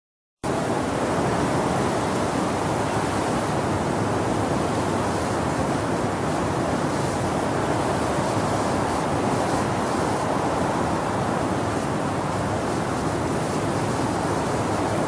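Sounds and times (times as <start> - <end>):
steady rushing hiss: 0.5 - 15.0.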